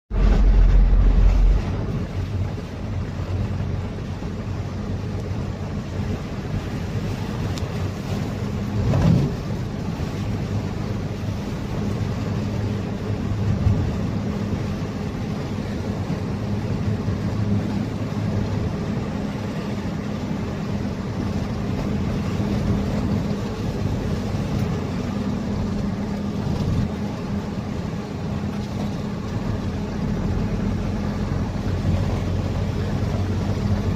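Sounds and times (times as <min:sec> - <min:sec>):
road and tyre noise: 0:00.0 - 0:33.9
vehicle engine droning: 0:00.1 - 0:33.9.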